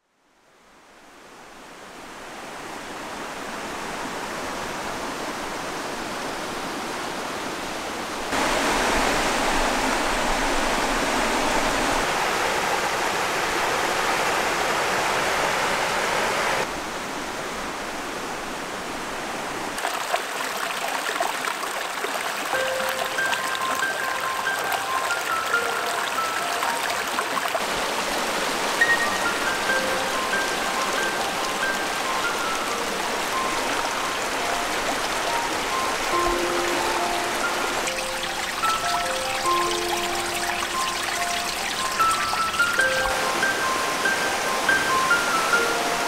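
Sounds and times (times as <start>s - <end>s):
stream running over rocks: 0.7s - 46.0s
water splashes and trickles: 1.2s - 46.0s.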